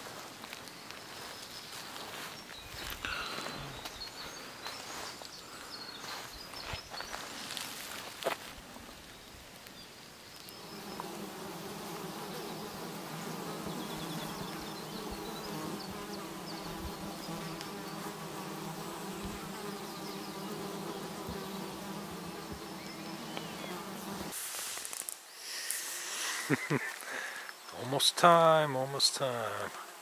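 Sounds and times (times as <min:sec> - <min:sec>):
insect buzzing: 0:00.2 - 0:28.4.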